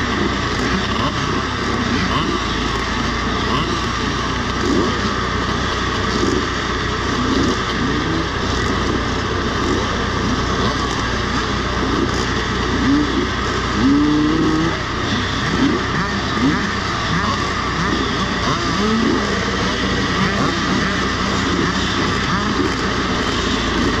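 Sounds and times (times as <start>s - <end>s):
two-stroke motorbikes revving: 0.0s - 24.0s.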